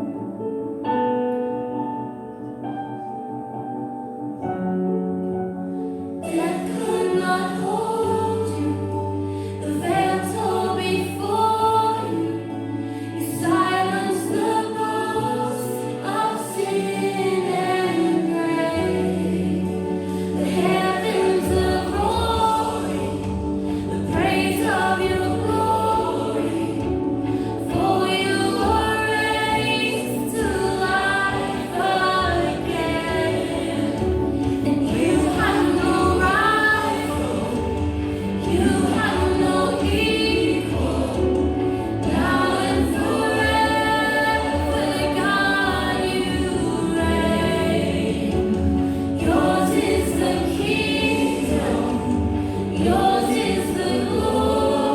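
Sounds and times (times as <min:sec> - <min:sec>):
sustained instrumental backing: 0:00.0 - 0:54.9
voices singing worship song: 0:05.7 - 0:54.9.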